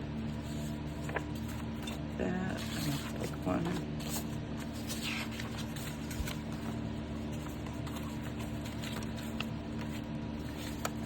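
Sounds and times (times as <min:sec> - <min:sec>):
low electrical hum: 0:00.0 - 0:11.0
paper rustling: 0:00.1 - 0:11.0.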